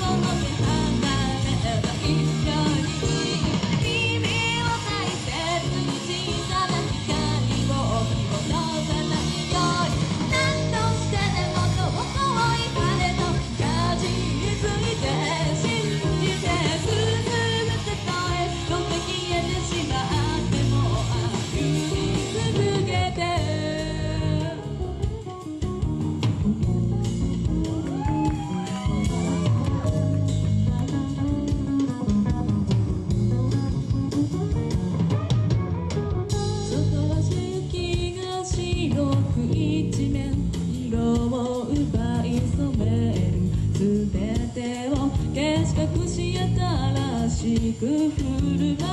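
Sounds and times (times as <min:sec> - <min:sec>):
drum kit: 0:00.0 - 0:48.9
electric guitar: 0:00.0 - 0:48.9
rock band playing live: 0:00.0 - 0:48.9.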